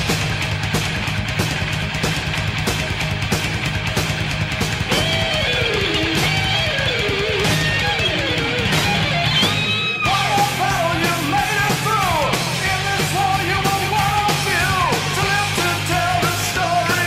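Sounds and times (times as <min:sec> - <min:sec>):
bending lead guitar line: 0:00.0 - 0:17.0
heavy metal band playing: 0:00.0 - 0:17.0.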